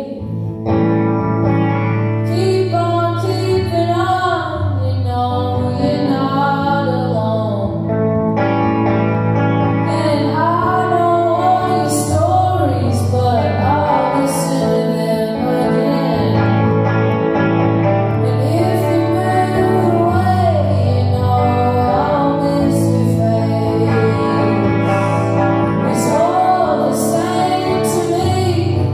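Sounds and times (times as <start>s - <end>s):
woman singing: 0.0s - 0.5s, 2.2s - 8.1s, 9.8s - 16.9s, 18.1s - 28.9s
electric guitar chords: 0.0s - 28.9s.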